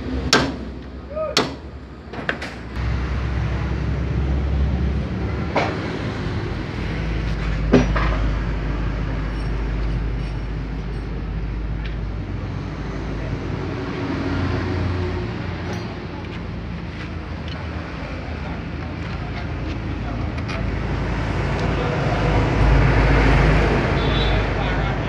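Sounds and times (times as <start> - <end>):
low mechanical rumble: 0.0 - 23.1.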